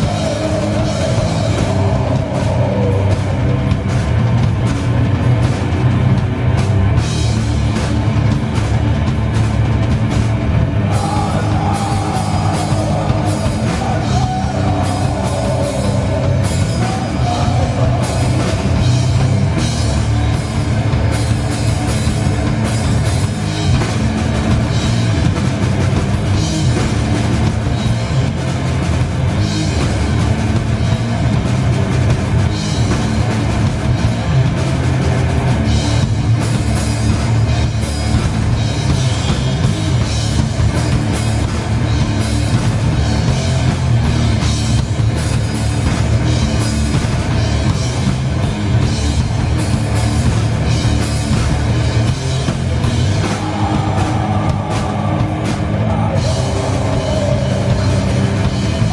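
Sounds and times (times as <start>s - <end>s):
heavy metal band playing live: 0.0s - 58.9s.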